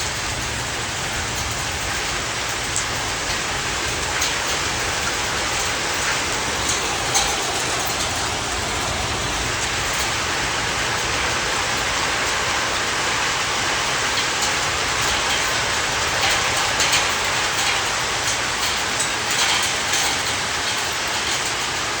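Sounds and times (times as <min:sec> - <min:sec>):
heavy rain falling: 0:00.0 - 0:22.0
hailstones tapping hard surfaces: 0:00.1 - 0:22.0.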